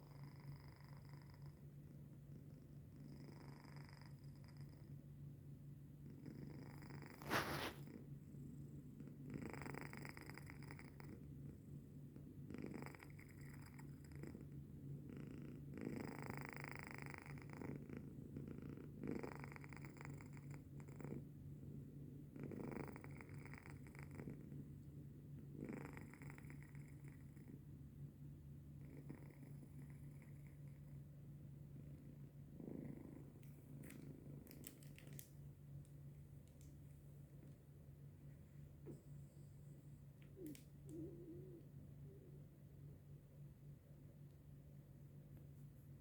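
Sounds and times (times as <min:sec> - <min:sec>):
cat snoring softly: 0:00.0 - 0:05.2, 0:06.0 - 0:27.7, 0:28.7 - 0:35.2, 0:38.8 - 0:42.6
steady low hum: 0:00.0 - 0:46.0.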